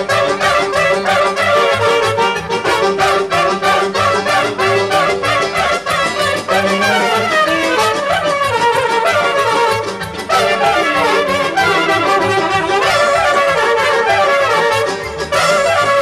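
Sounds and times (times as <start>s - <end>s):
accordion: 0.0s - 16.0s
trumpets playing fast melody: 0.0s - 16.0s.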